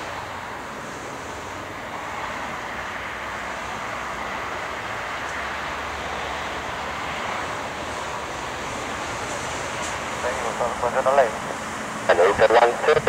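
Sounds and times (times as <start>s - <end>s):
jet airliner engines rushing: 0.0s - 13.0s.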